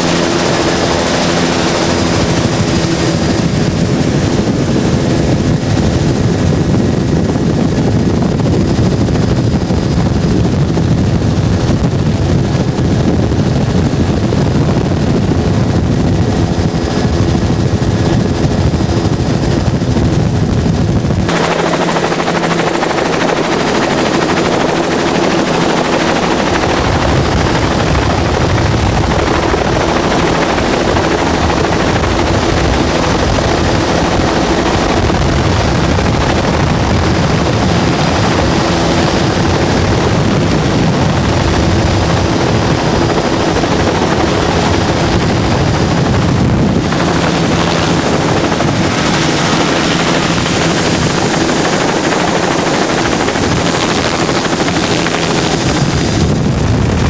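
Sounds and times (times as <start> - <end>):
outboard engine drone: 0.0 - 57.0
rush of wind and water: 0.0 - 57.0.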